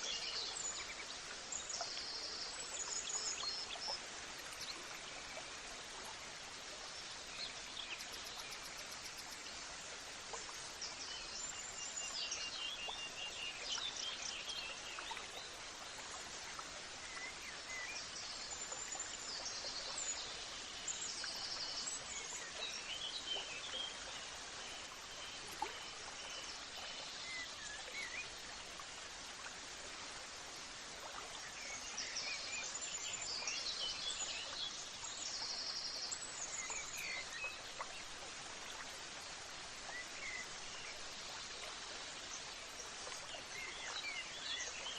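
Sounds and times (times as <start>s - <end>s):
flowing water rushing: 0.0s - 44.9s.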